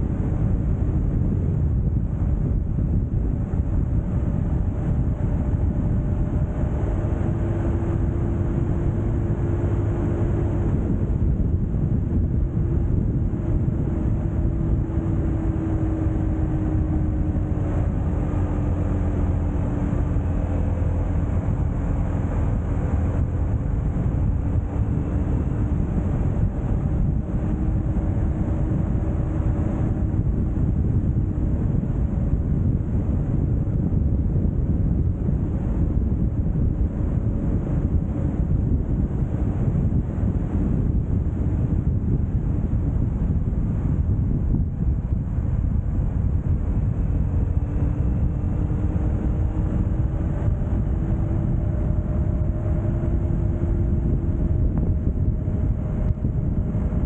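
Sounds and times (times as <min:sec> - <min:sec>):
highway road noise: 0:00.0 - 0:57.0
wind rush on microphone: 0:00.0 - 0:57.0.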